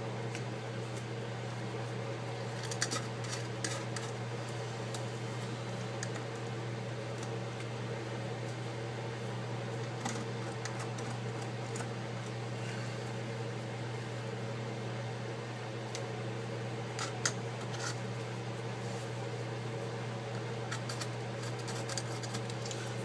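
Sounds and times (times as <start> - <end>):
electrical hum of fan: 0.0 - 23.0.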